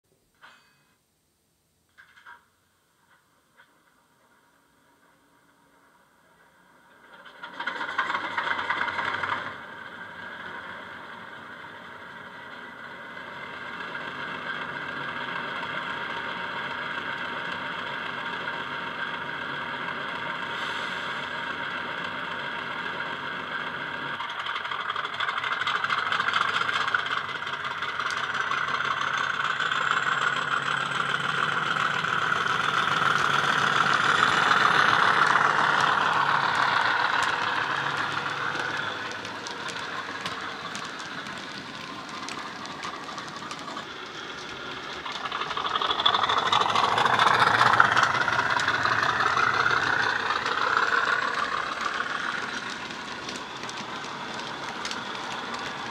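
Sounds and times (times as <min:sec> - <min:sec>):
diesel engine sound from speaker: 0:05.0 - 0:55.9.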